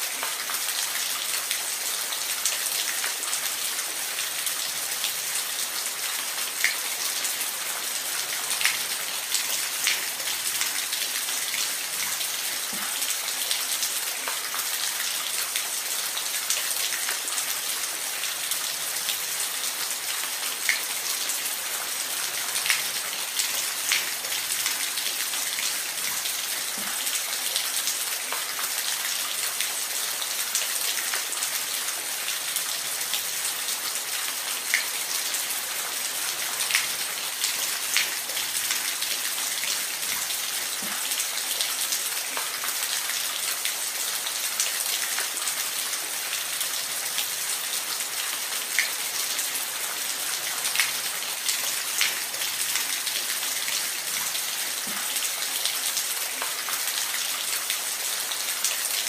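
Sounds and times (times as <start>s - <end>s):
steady rain in forest: 0.0s - 59.0s.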